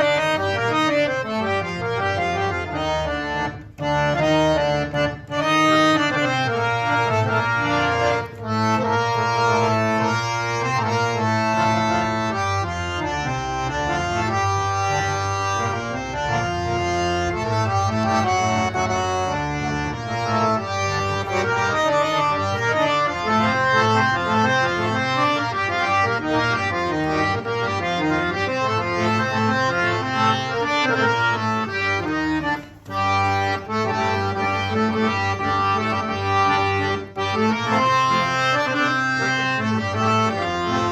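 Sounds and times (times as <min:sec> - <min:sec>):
reed harmonium melody: 0:00.0 - 0:40.9.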